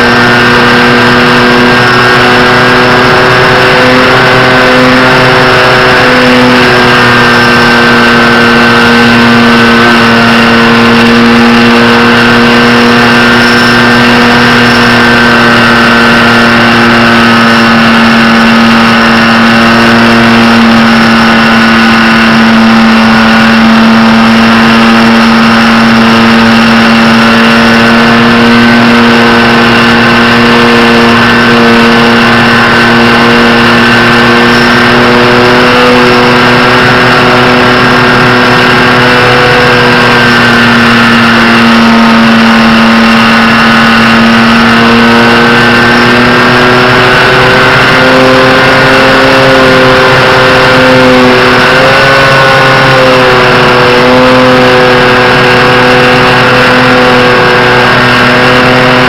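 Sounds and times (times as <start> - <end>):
electric motor whine: 0.0 - 59.0.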